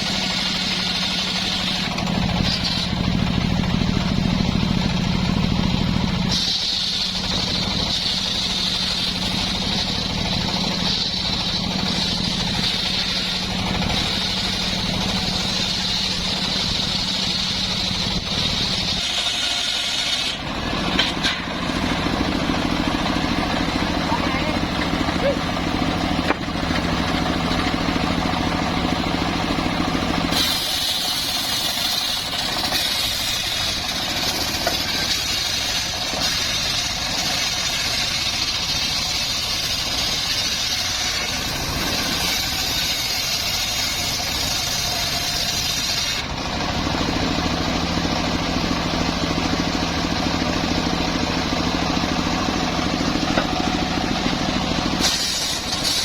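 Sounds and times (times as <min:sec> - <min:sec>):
engine saw cutting timber: 0:00.0 - 0:56.0.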